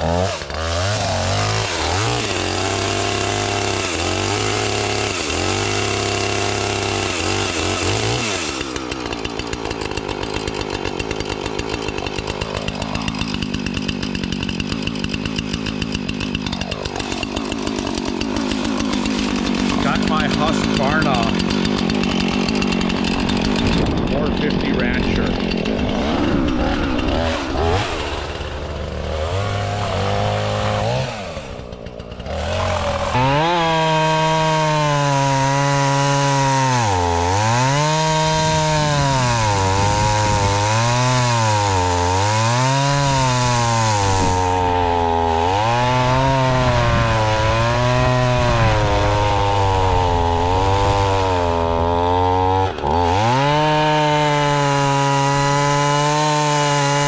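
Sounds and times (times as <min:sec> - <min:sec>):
chainsaw cutting wood: 0:00.0 - 0:57.0
chainsaw idling and revving: 0:00.0 - 0:57.0.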